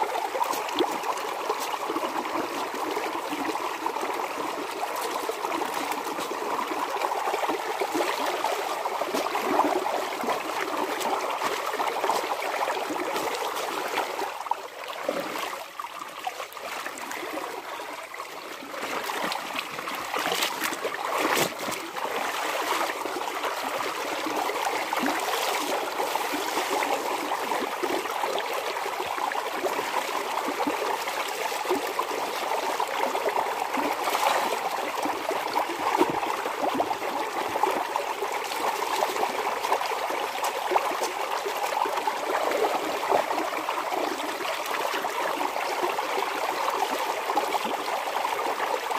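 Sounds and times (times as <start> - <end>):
water splashing and trickling: 0.0 - 48.9.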